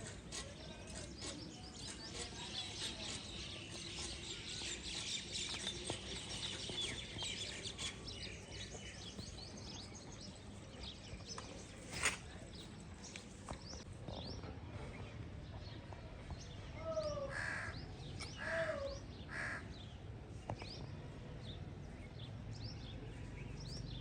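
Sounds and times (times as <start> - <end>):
low background noise: 0.0 - 24.0
small birds chirping: 0.0 - 24.0.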